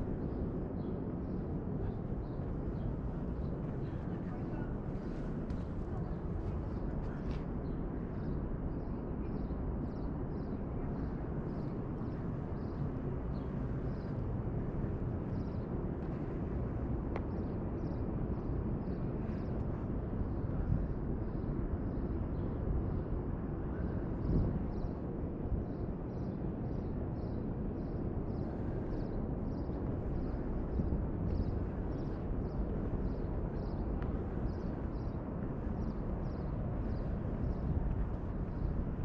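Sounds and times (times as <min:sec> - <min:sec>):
steady low rumble: 0:00.0 - 0:07.3, 0:09.7 - 0:39.0.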